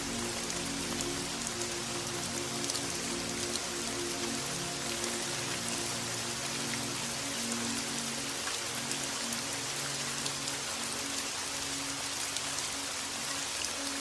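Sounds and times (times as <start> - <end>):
soft background music: 0.0 - 14.0
steady rain: 0.0 - 14.0.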